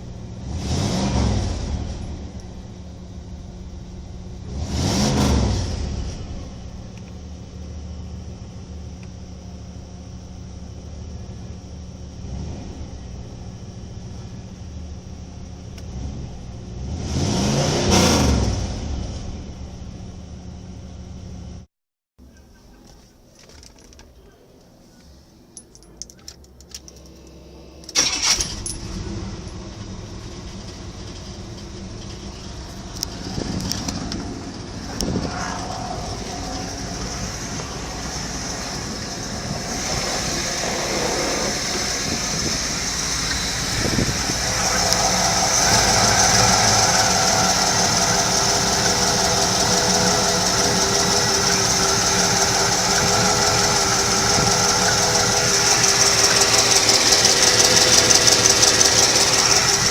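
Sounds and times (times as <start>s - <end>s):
car engine starting and revving: 0.0s - 9.2s, 11.9s - 20.2s, 27.3s - 59.9s.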